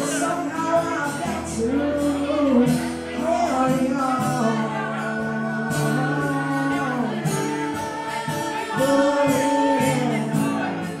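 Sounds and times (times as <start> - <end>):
person singing: 0.0 - 11.0
strummed acoustic guitar: 0.0 - 11.0.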